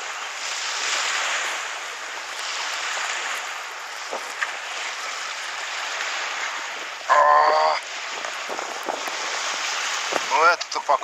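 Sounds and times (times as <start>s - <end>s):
strong wind: 0.0s - 11.0s
waves washing against stony shore: 0.0s - 11.0s.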